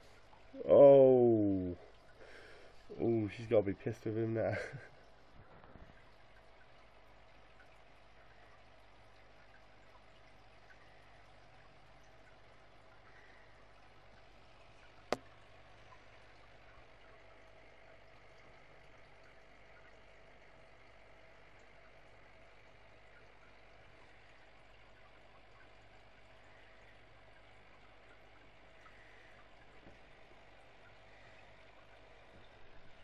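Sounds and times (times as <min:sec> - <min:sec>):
aquarium filter humming: 0:00.0 - 0:33.0
water trickling: 0:00.0 - 0:33.0.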